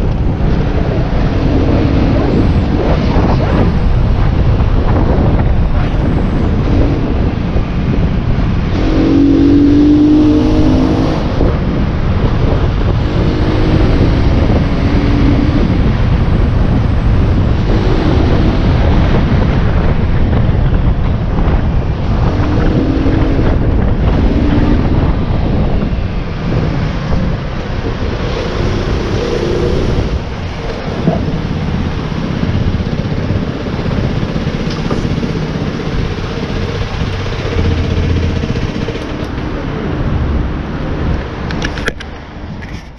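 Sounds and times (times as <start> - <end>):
motorcycle engine revving: 0.0 - 42.0
wind buffeting microphone: 0.0 - 42.9.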